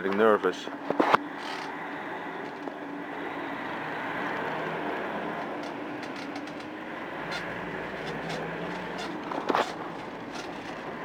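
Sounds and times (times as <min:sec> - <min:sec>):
vehicle engine hum and road noise: 0:00.0 - 0:11.0.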